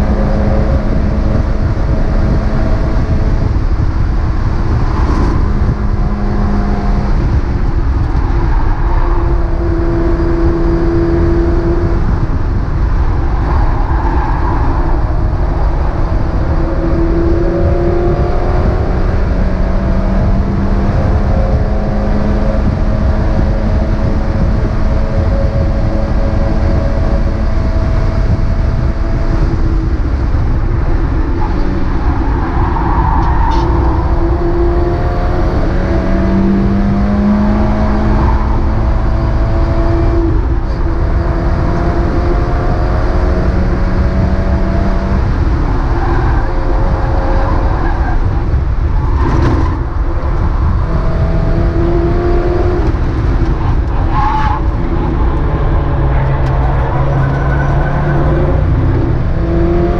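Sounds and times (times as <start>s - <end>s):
race car engine revving: 0.0s - 59.9s
wind and road noise rumble: 0.0s - 59.9s.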